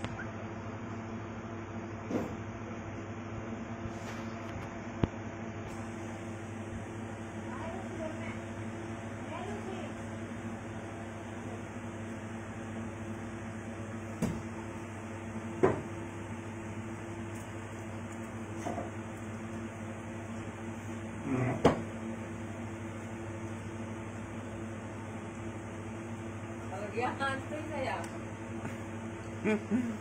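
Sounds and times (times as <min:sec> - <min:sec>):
mechanical hum with low buzz: 0:00.0 - 0:30.0.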